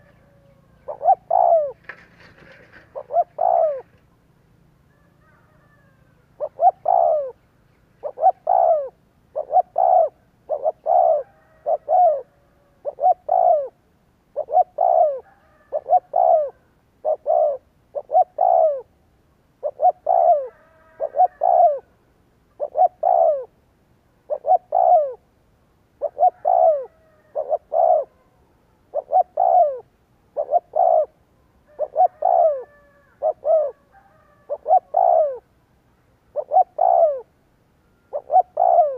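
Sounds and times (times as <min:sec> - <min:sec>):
dove cooing: 0:00.0 - 0:04.1, 0:04.8 - 0:07.4, 0:08.0 - 0:19.0, 0:19.6 - 0:23.6, 0:24.3 - 0:25.3, 0:26.0 - 0:35.5, 0:36.3 - 0:37.3, 0:38.0 - 0:38.9.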